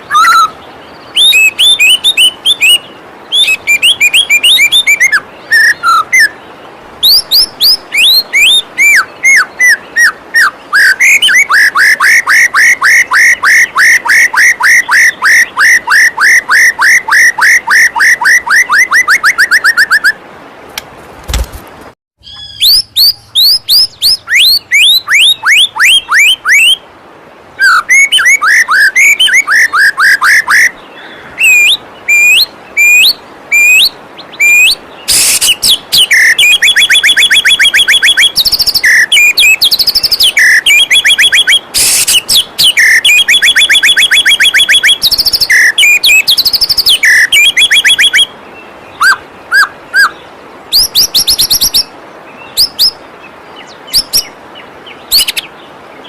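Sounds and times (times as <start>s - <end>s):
bird singing whistles and trills: 0.0s - 6.4s, 7.0s - 20.2s, 22.2s - 26.8s, 27.6s - 53.0s, 53.6s - 55.5s.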